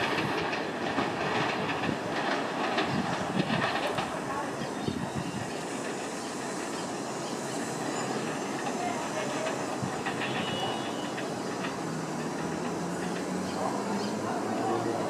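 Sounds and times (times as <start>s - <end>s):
subway train rumble and hiss: 0.0s - 15.0s.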